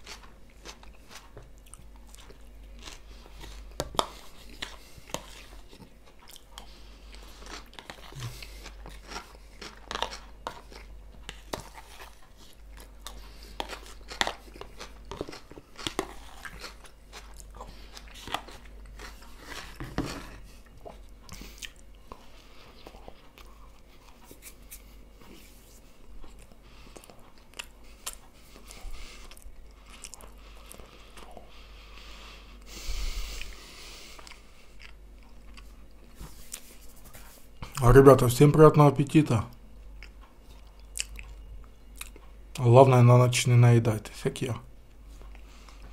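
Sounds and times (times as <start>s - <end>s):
chewing and crunching food: 0.0s - 42.7s, 44.8s - 45.9s.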